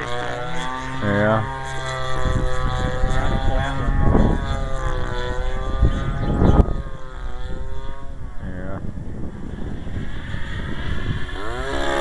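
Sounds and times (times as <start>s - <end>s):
model airplane engine buzzing: 0.0s - 12.0s
wind rumbling on microphone: 0.0s - 12.0s.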